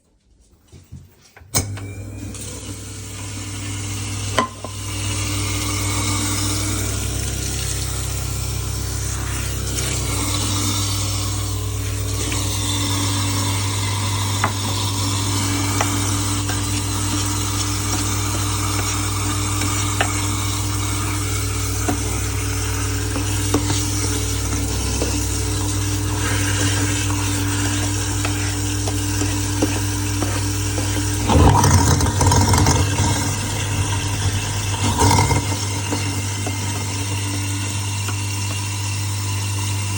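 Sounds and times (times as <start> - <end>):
garbage disposal grinding: 1.6 - 39.9.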